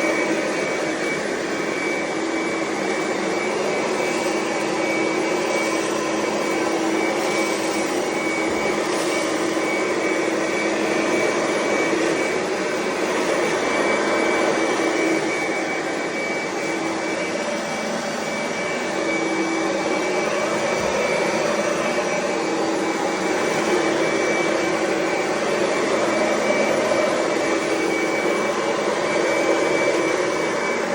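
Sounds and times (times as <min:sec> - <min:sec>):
vacuum cleaner motor whine: 0:00.0 - 0:30.9.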